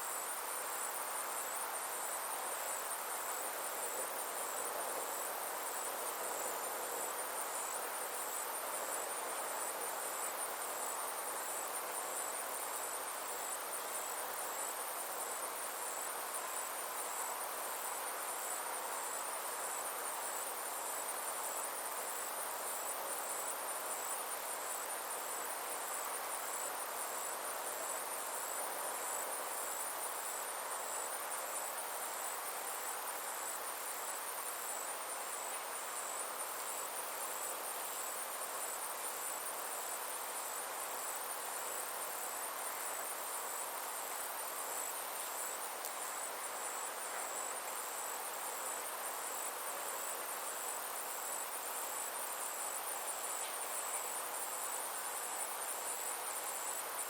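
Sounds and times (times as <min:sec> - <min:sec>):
background hiss: 0:00.0 - 0:57.0
insects trilling: 0:00.0 - 0:57.0.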